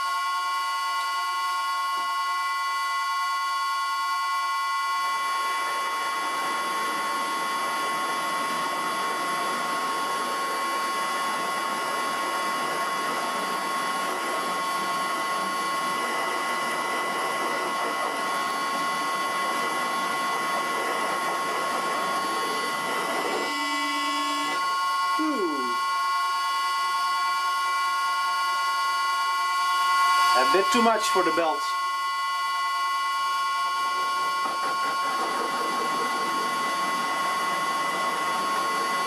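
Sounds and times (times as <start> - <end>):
lathe whining: 0.0 - 39.0.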